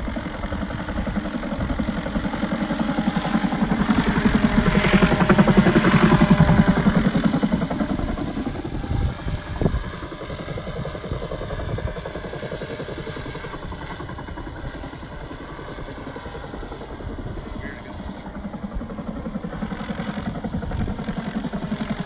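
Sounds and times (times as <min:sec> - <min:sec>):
model helicopter rotor chop: 0:00.0 - 0:22.0.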